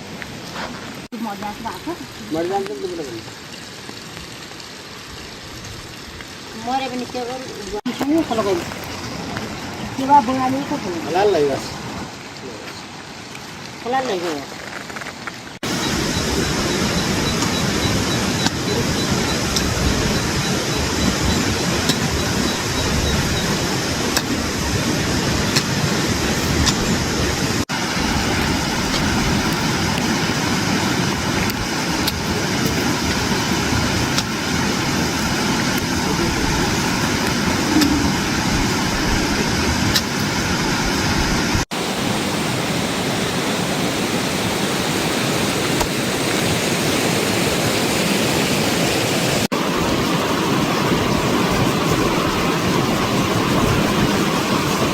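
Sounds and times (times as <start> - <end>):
rushing water from heavy rain: 0.0 - 54.9.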